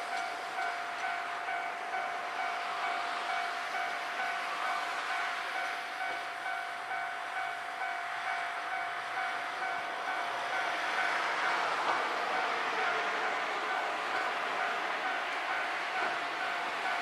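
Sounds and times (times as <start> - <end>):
electric train running: 0.0 - 17.0
level crossing warning bell: 0.0 - 17.0.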